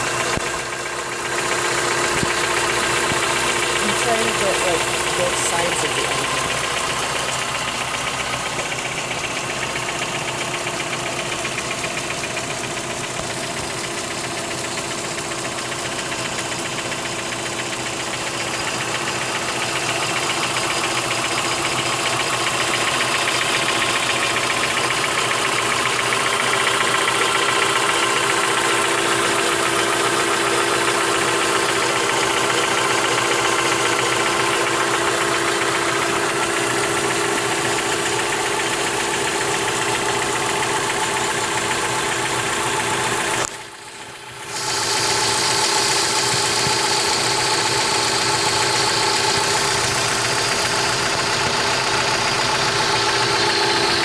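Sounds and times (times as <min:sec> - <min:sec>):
car engine idling: 0:00.0 - 0:54.0
fast steady engine ticking: 0:00.0 - 0:54.0.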